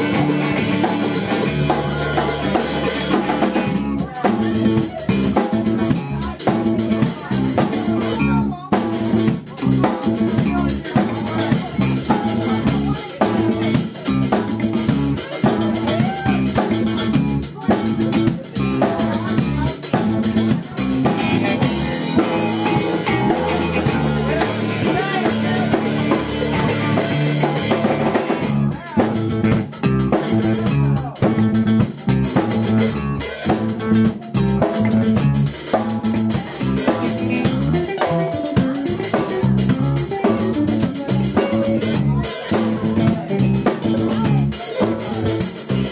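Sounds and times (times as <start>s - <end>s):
live band playing: 0.0s - 45.9s.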